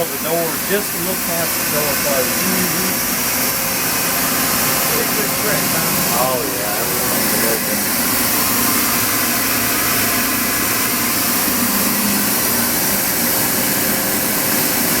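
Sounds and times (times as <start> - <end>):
machine hiss and hum: 0.0 - 15.0.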